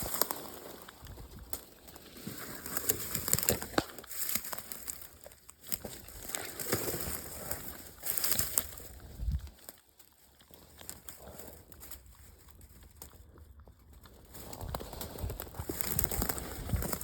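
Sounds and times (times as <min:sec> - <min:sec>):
dry leaves crunching: 0:00.0 - 0:17.0.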